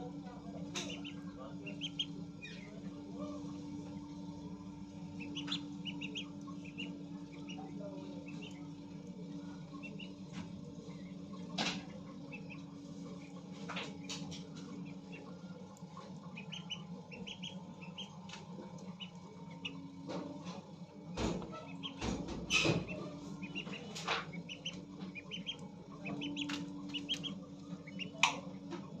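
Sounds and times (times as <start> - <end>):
steady low hum: 0.0 - 29.0
birds chirping: 0.1 - 29.0.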